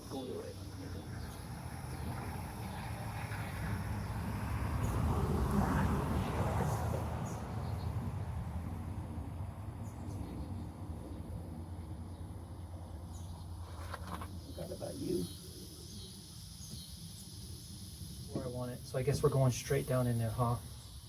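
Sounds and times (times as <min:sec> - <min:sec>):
faint insect calls: 0:00.0 - 0:21.0.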